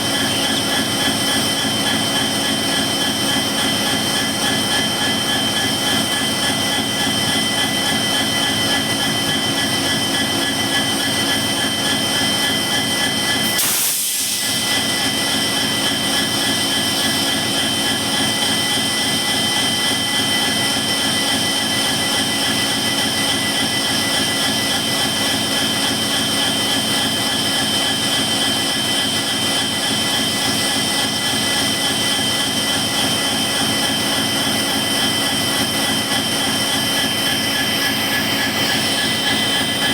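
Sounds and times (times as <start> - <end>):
diesel locomotive engine hum: 0.0 - 39.9
turbocharger whine: 0.0 - 39.9.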